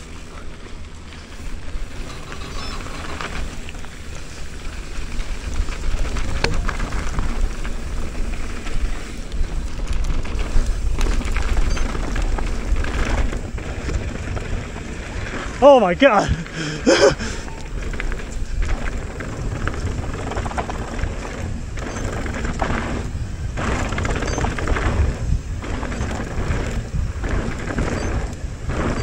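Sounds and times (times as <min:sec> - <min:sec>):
bike knocking and rattling: 0:00.0 - 0:29.0
tyres crunching over dirt and rocks: 0:00.0 - 0:29.0
wind rumbling on microphone: 0:00.0 - 0:29.0.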